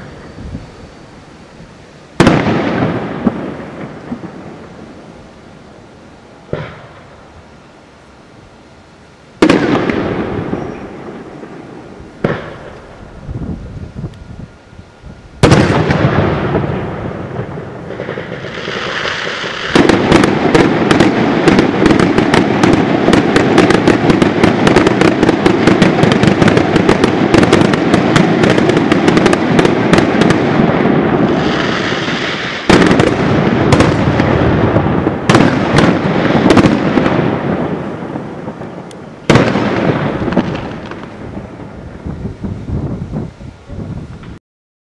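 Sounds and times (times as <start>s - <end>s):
firework crackling: 0.0s - 44.4s.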